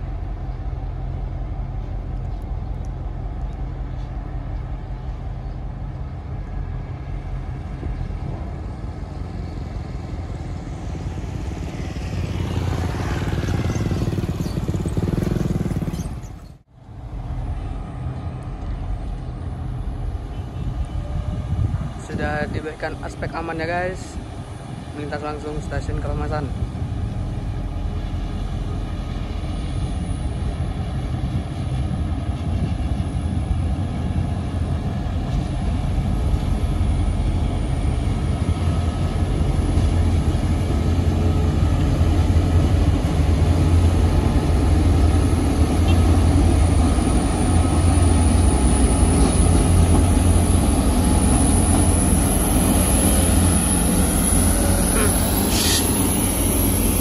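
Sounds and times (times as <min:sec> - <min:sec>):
locomotive engines rumbling: 0:00.0 - 0:57.0.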